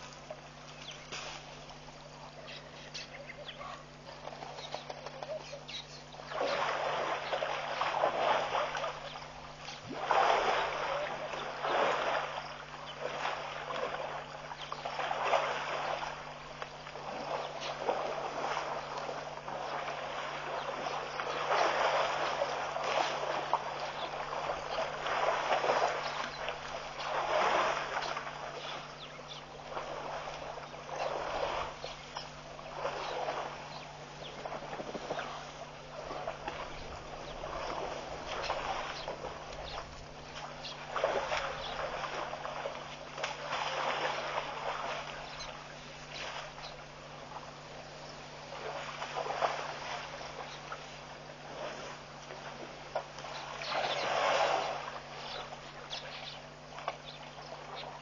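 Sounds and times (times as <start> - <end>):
elephants splashing through water: 0.0 - 2.4, 4.0 - 58.0
steady low hum: 0.0 - 58.0.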